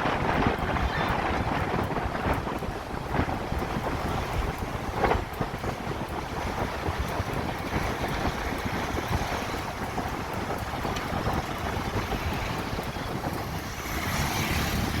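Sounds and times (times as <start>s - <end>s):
steady low rumble: 0.0s - 15.0s
wind buffeting microphone: 0.0s - 15.0s.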